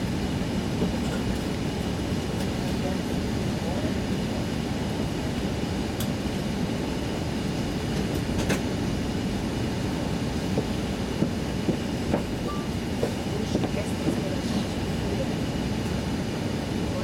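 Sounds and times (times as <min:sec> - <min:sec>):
aircraft engine rumble: 0:00.0 - 0:17.0.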